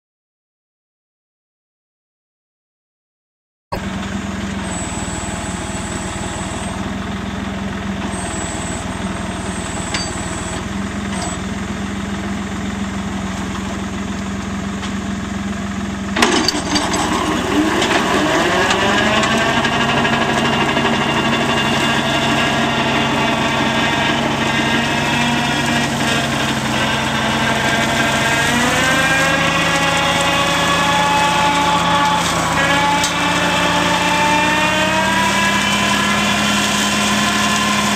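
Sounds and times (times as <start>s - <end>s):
mower whine: 3.8s - 37.9s
tractor engine: 3.8s - 37.9s.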